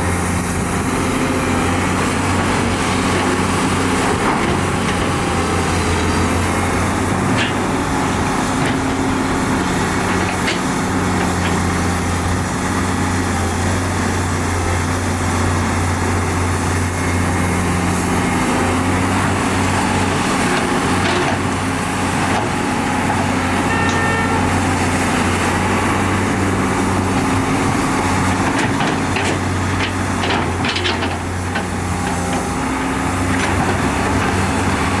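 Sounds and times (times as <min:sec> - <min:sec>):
heavy diesel machinery running: 0:00.0 - 0:35.0.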